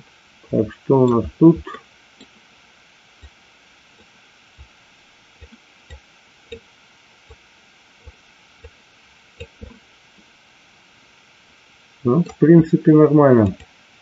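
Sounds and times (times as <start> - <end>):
low hiss: 0.0 - 14.0.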